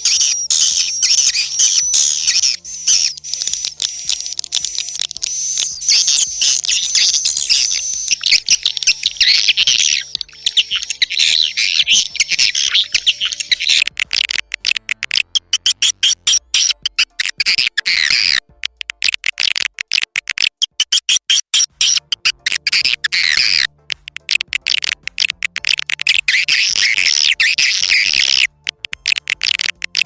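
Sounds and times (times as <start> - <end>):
swiftlets twittering chirps: 0.0 - 30.0.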